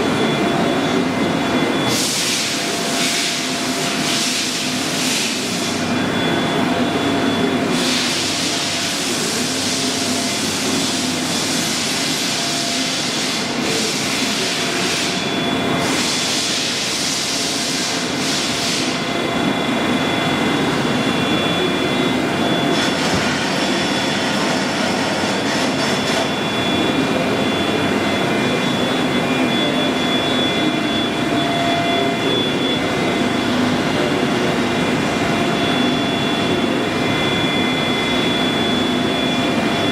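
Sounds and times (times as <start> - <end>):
milling machine humming and whining: 0.0 - 39.9.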